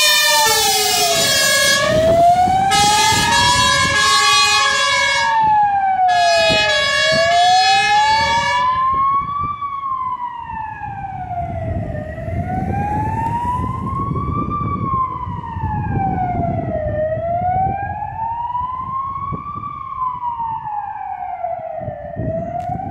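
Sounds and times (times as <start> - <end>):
engine and road rumble: 0.0 - 22.9
wailing electronic siren: 0.0 - 22.9.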